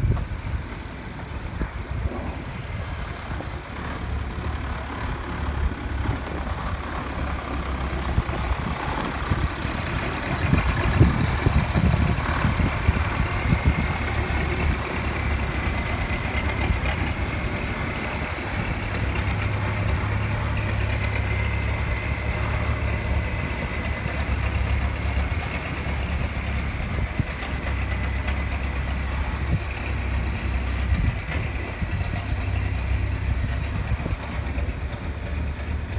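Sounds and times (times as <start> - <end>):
tractor diesel engine running: 0.0 - 35.9
tyres on gravel: 0.0 - 35.9.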